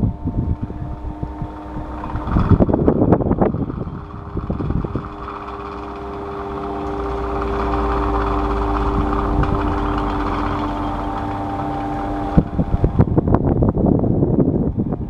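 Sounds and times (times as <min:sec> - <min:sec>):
rattling knocks: 0:00.0 - 0:13.5
electric fan humming: 0:00.0 - 0:15.0.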